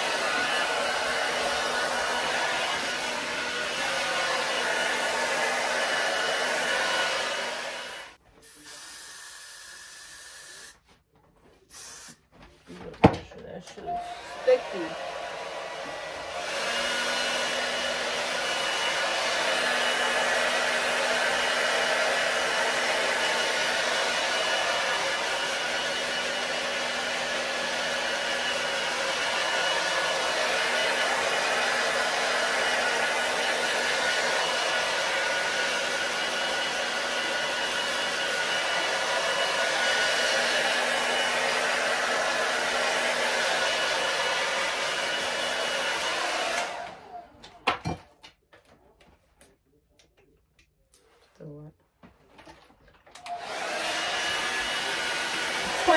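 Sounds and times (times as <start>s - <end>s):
hair dryer blowing: 0.0s - 10.8s, 13.0s - 48.0s, 53.1s - 55.9s.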